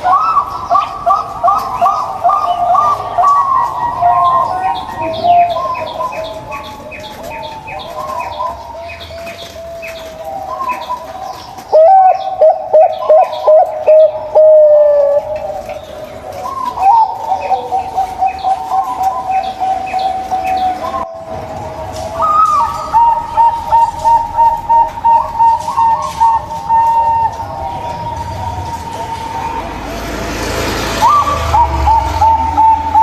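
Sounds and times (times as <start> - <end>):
dove cooing: 0.0 - 30.2, 31.0 - 33.0.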